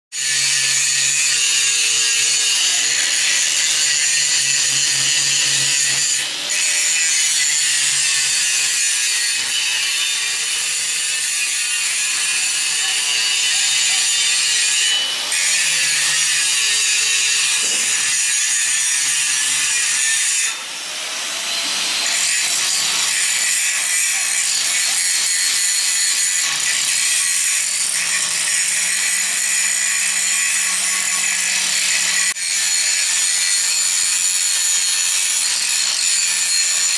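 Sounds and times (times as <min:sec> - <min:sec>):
angle grinder grinding metal: 0:00.2 - 0:36.9.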